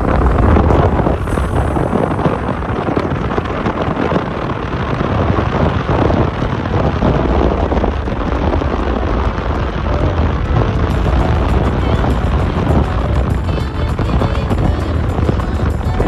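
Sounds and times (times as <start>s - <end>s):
outboard engine: 0.0s - 16.0s
wind buffeting microphone: 0.0s - 16.0s.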